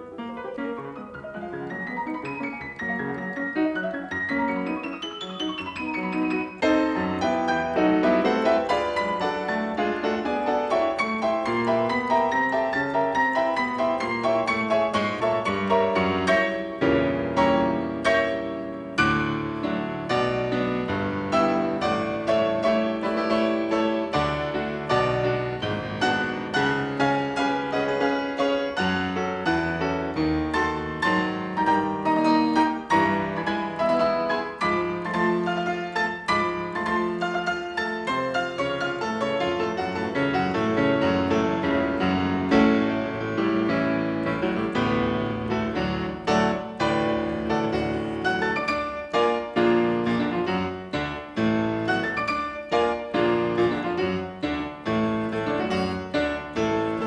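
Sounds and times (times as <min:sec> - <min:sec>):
fast classical piano: 0:00.0 - 0:57.0.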